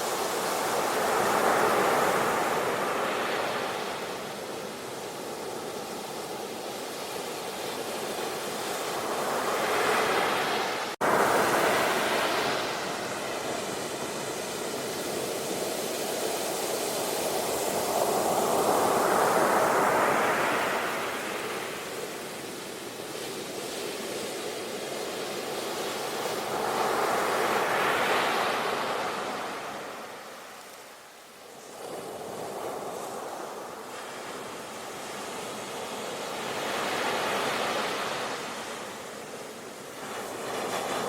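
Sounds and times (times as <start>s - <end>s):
waves washing on a beach: 0.0s - 41.0s.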